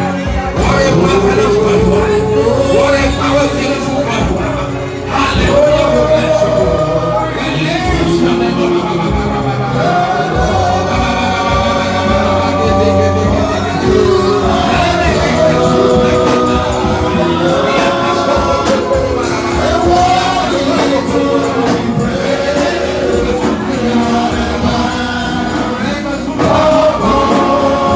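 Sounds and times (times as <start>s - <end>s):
group of voices singing: 0.0s - 27.9s
steady musical accompaniment: 0.0s - 27.9s.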